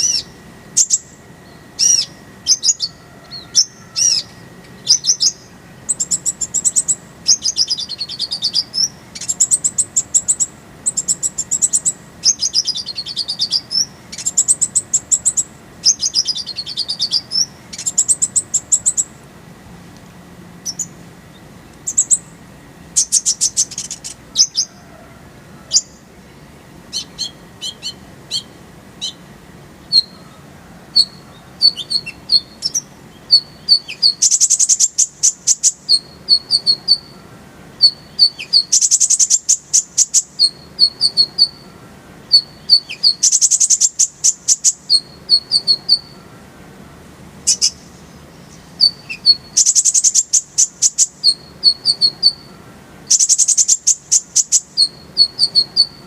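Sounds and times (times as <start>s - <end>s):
sunbird singing: 0.0s - 19.8s, 20.4s - 56.0s.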